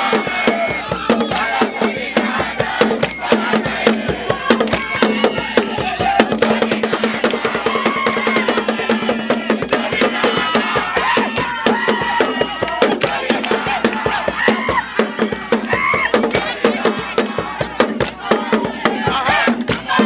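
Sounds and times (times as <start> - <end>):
fast dense drumming: 0.0 - 20.0
voices singing or chanting: 0.0 - 20.0.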